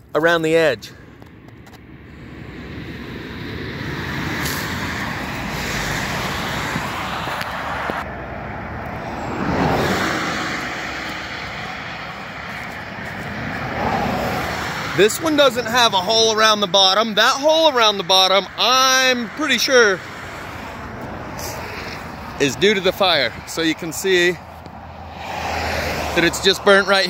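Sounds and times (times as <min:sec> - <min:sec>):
highway traffic passing: 0:00.0 - 0:27.0.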